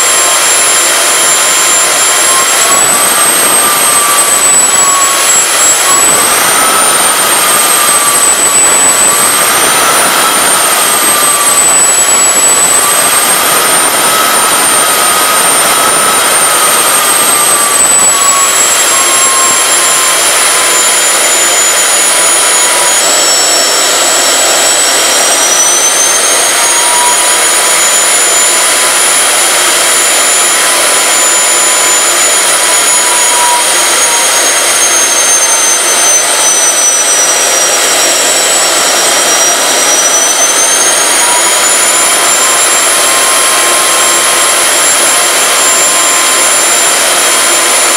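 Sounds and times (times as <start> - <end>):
high turbine whine: 0.0 - 47.9
jet engine rushing: 0.0 - 47.9.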